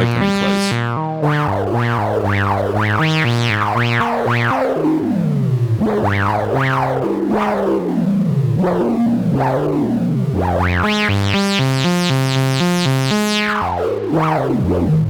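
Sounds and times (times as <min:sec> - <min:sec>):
resonant analogue synth line: 0:00.0 - 0:15.0.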